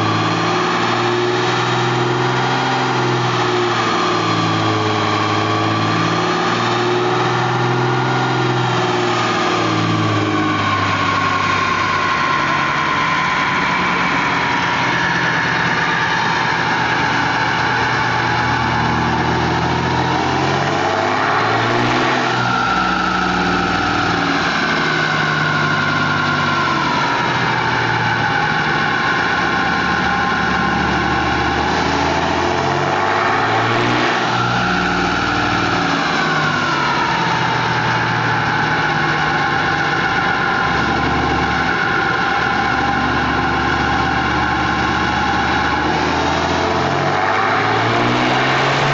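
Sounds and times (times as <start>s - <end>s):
diesel engine running: 0.0s - 48.9s
whine sliding in pitch: 0.0s - 48.9s.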